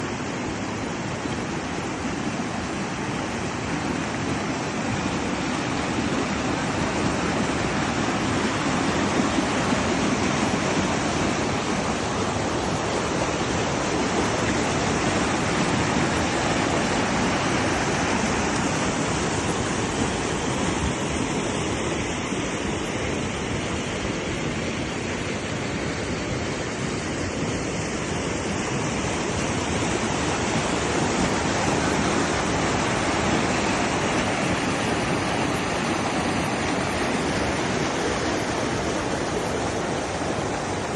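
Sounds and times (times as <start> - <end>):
rush of flowing water: 0.0 - 40.9.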